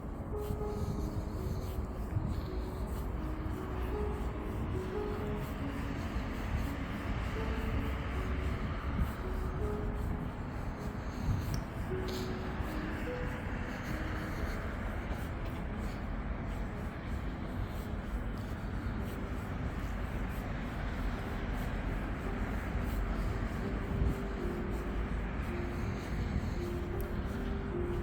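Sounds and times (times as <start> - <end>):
distant road traffic rumble: 0.0 - 28.0.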